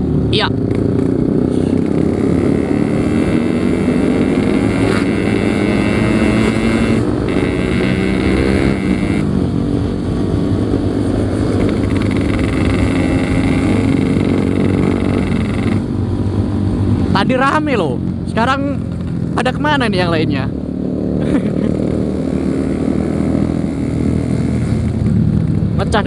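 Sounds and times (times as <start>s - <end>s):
two-stroke motorcycle engine running: 0.0s - 17.4s, 18.0s - 26.0s.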